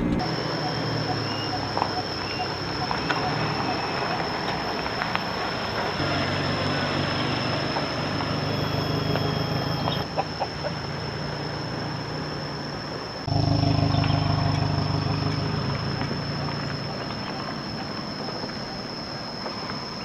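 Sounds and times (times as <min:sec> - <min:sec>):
car engine low hum: 0:00.0 - 0:19.4
high-pitched insect drone: 0:00.2 - 0:10.2, 0:13.2 - 0:20.0.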